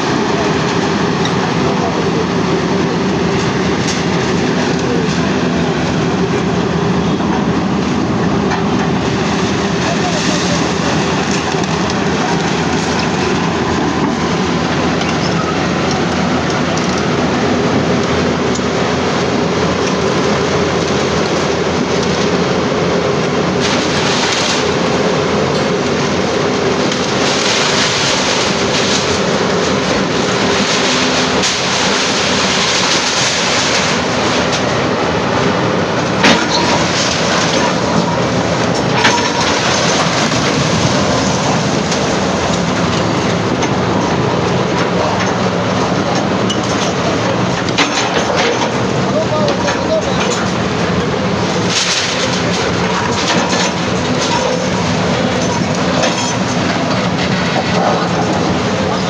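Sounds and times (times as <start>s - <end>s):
demolition machinery rattling: 0.0s - 59.0s.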